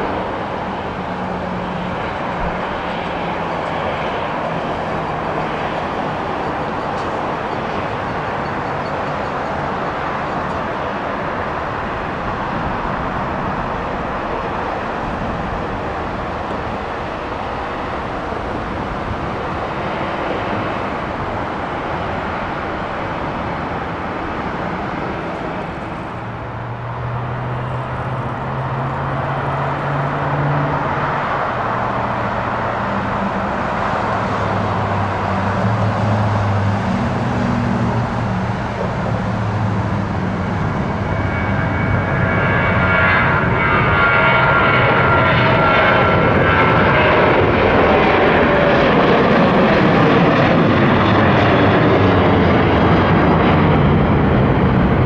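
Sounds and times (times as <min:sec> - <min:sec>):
airport and traffic rumble: 0:00.0 - 0:55.0
jet engines humming: 0:00.0 - 0:55.0.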